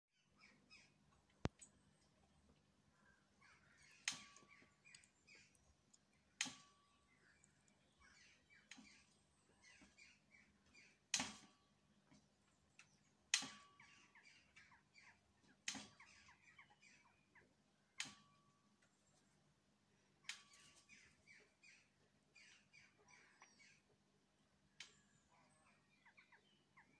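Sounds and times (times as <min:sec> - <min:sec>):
songbirds chirping: 0:00.2 - 0:26.9.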